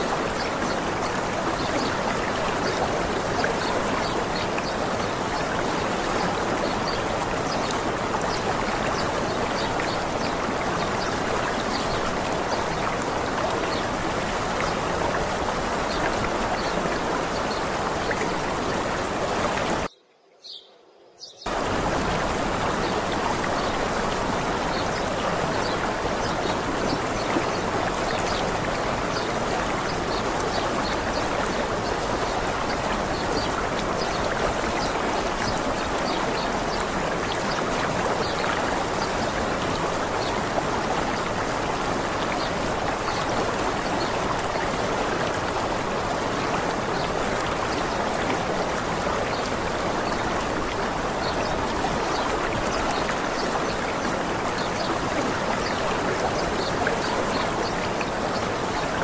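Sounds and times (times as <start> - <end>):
small waterfall rushing: 0.0 - 19.9, 21.5 - 59.0.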